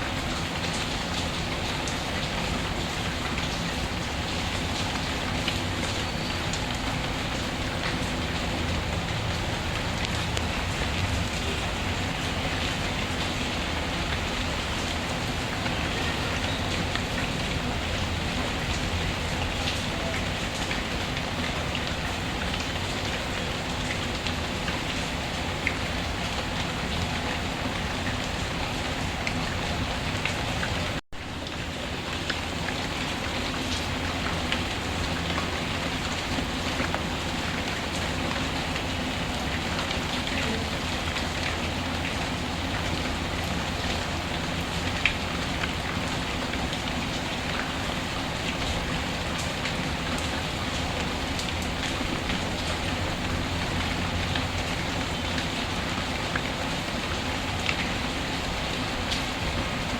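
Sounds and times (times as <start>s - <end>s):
rainfall hiss: 0.0s - 59.9s.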